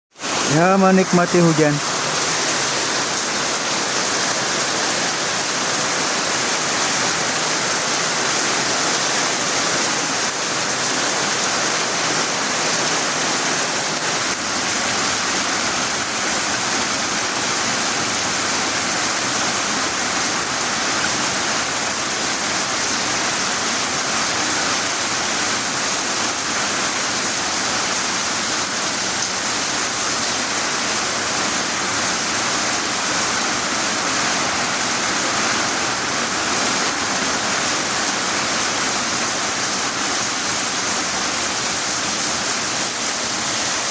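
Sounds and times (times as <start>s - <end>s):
heavy rain pouring: 0.2s - 43.9s.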